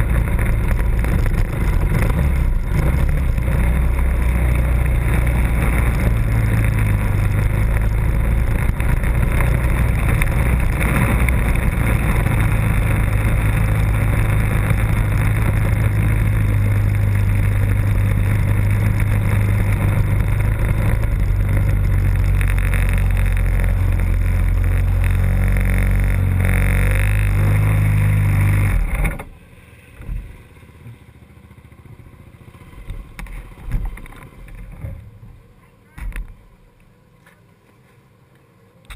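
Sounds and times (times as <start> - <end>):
off-road engine running: 0.0 - 36.4.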